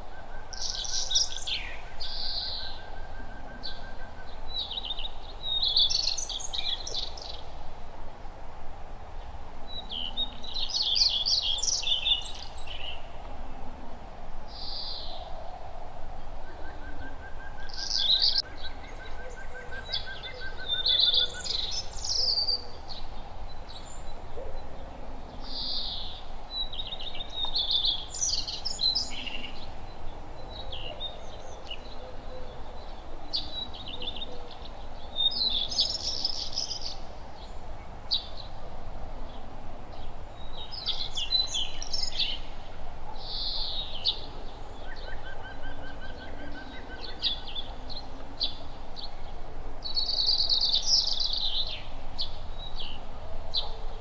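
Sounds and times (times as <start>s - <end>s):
songbirds chirping and singing: 0.0s - 7.7s, 9.7s - 13.8s, 14.5s - 54.0s
faint outdoor background hum: 0.0s - 54.0s.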